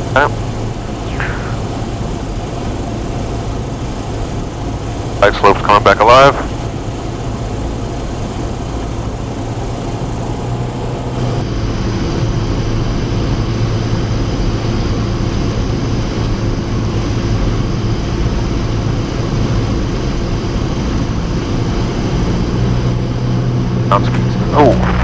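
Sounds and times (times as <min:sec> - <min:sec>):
airplane engine droning: 0:00.0 - 0:25.0.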